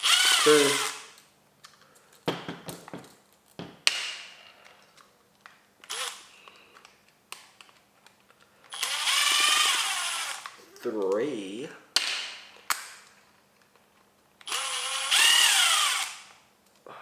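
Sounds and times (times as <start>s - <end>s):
small parts and tool clicking: 0.0s - 11.3s, 12.5s - 16.9s.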